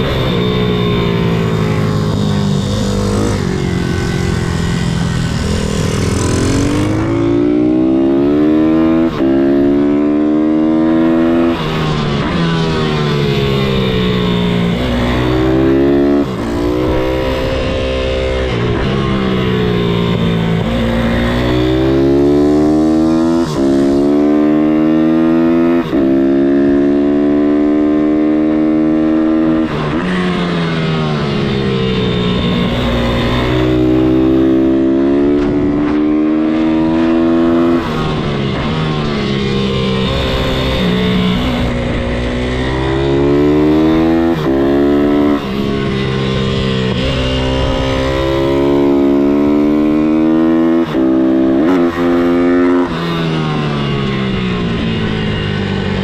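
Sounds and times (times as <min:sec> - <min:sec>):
motorbike engine accelerating: 0:00.0 - 0:56.0.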